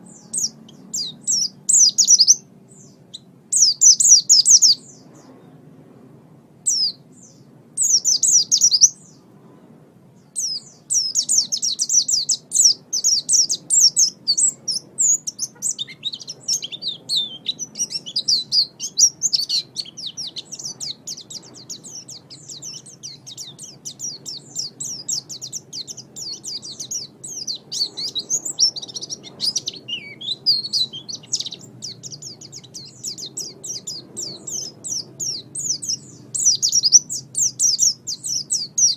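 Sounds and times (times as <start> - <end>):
bird twittering song: 0.0 - 5.6, 6.6 - 9.3, 10.1 - 38.9.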